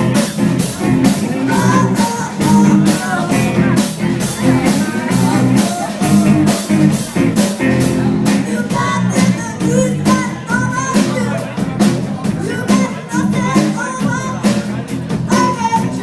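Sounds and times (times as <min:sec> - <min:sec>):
drum kit beat: 0:00.0 - 0:16.0
guitar chords: 0:00.0 - 0:16.0
person singing: 0:01.0 - 0:06.9, 0:07.8 - 0:11.6, 0:12.3 - 0:16.0.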